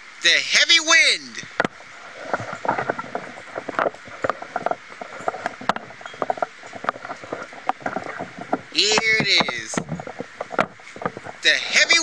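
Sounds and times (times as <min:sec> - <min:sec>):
gusting wind: 0:00.0 - 0:12.0
loose objects rattling: 0:01.4 - 0:12.0.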